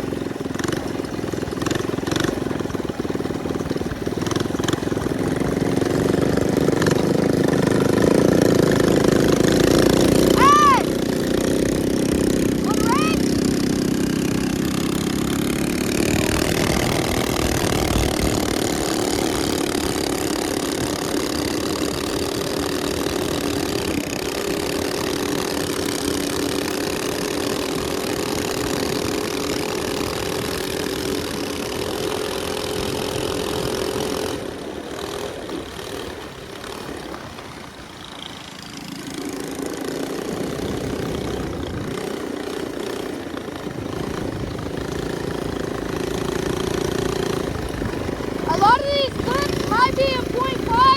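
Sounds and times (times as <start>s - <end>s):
minibike engine running: 0.0s - 50.9s.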